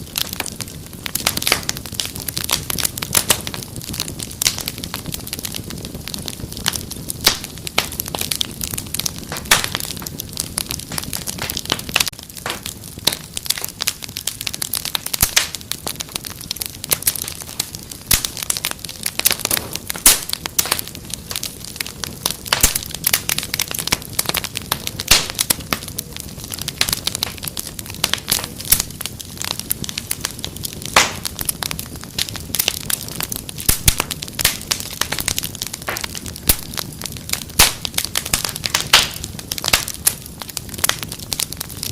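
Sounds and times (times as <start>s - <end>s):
fire crackling and popping: 0.0s - 41.9s.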